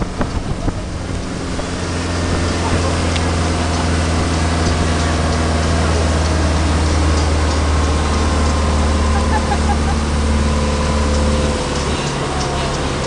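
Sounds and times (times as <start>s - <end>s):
rush of wake and wind: 0.0s - 13.0s
speedboat engine drone: 0.0s - 13.0s.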